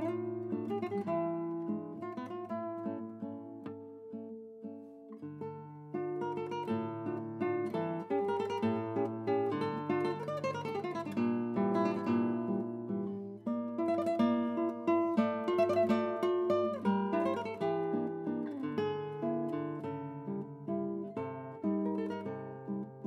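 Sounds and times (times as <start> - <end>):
acoustic guitar music: 0.0 - 23.0.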